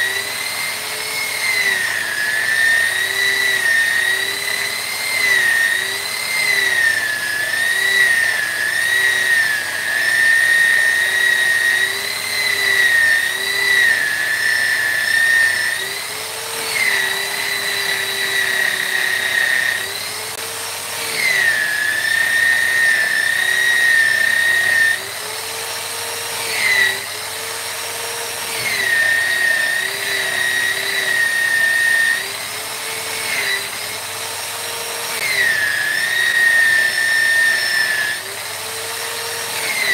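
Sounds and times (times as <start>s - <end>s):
rotary carving tool whining: 0.0s - 39.9s.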